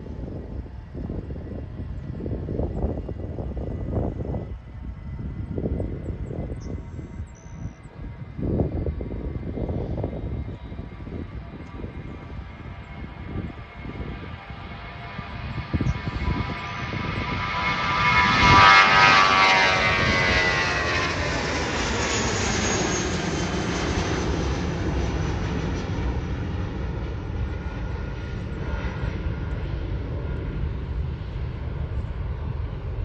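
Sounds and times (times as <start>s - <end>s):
falling engine whine: 0.0s - 33.0s
jet engines at takeoff power: 0.0s - 33.0s
steady jet rumble: 0.0s - 33.0s.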